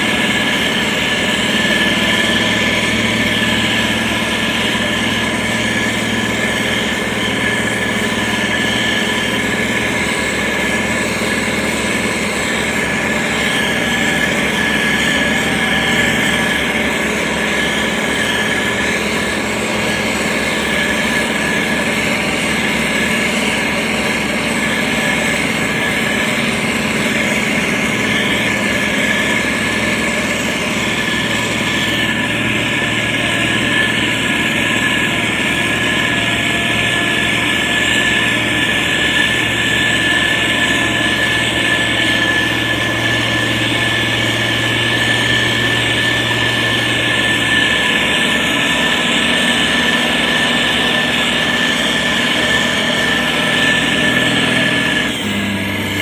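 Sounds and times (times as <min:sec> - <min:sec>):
diesel engine running under load: 0:00.0 - 0:56.0
high whine: 0:00.0 - 0:56.0.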